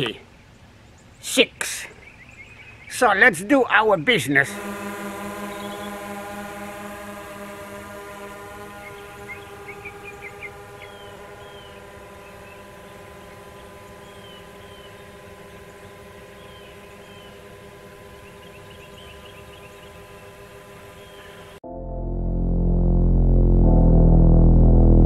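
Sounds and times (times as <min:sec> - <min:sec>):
birds chirping: 0:00.0 - 0:21.6
drone propellers whining: 0:04.2 - 0:25.0.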